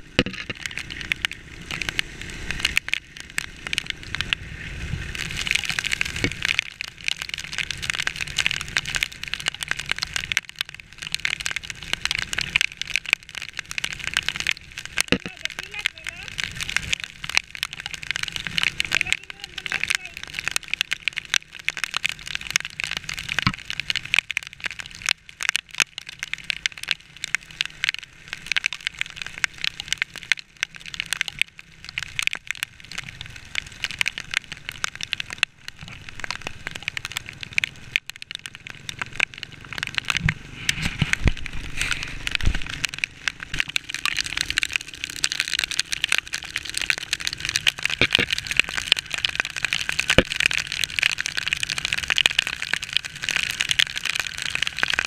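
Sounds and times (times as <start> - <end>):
motorcycle road noise: 0.0 - 55.0
raindrops hitting the camera: 0.0 - 55.0
wind: 0.0 - 55.0.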